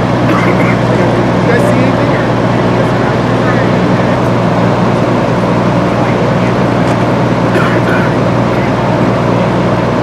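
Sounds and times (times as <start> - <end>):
fire engine droning: 0.0 - 10.0.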